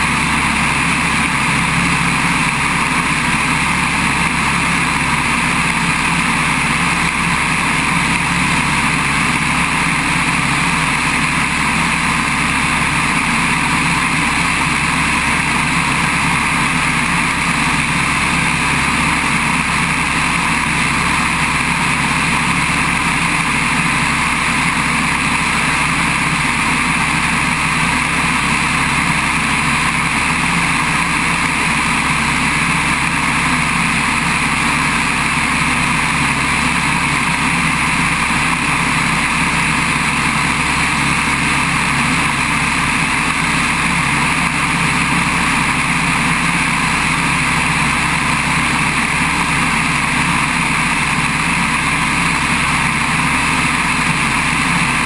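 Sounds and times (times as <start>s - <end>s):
plane engine drone: 0.0s - 55.0s.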